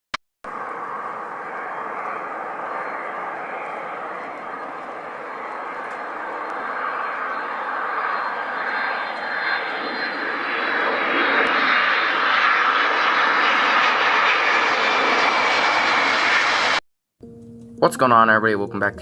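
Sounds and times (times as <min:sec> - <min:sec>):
jet engines rushing: 0:00.5 - 0:16.8.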